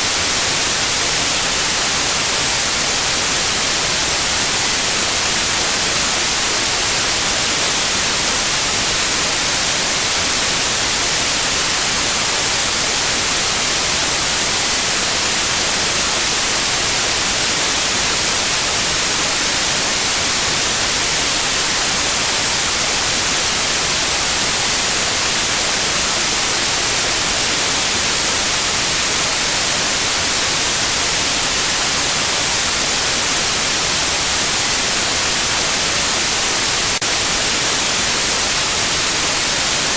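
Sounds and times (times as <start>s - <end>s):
high-pitched pure tone: 0.0s - 39.9s
white noise hiss: 0.0s - 39.9s.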